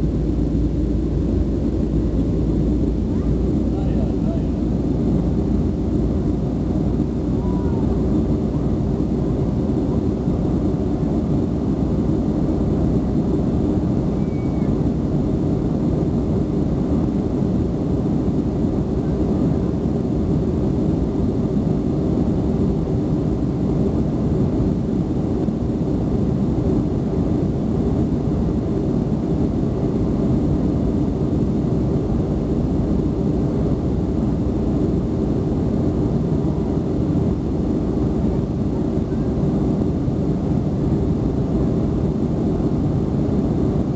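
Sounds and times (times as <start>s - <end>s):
airplane cabin engine roar: 0.0s - 43.9s.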